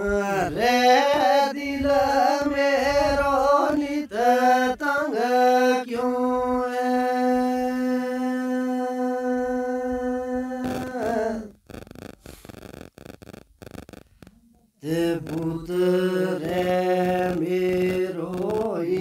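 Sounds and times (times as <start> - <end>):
man singing unaccompanied: 0.0 - 11.6, 14.8 - 19.0.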